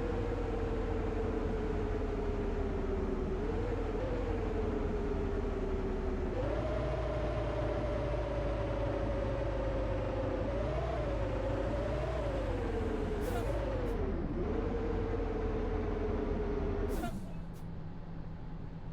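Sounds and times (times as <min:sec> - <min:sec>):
bus engine rumble: 0:00.0 - 0:18.9.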